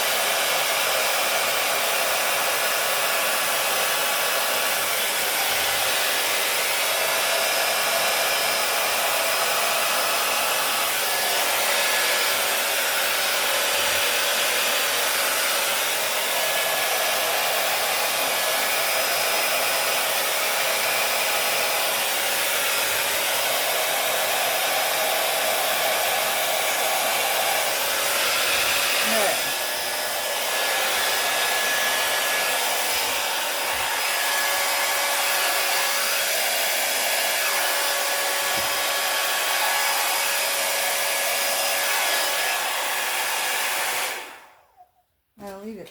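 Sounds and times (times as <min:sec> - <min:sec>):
hair dryer blowing: 0:00.0 - 0:45.8.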